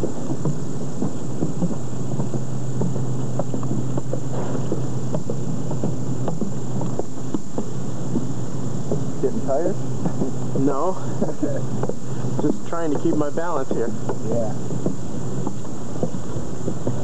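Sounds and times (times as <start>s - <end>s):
footsteps on metal stairway: 0.0s - 17.0s
low hum and rumble: 0.0s - 17.0s.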